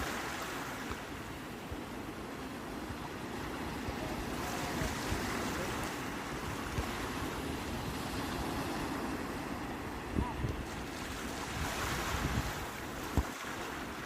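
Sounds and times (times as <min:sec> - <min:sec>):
sea waves washing in: 0:00.0 - 0:14.0.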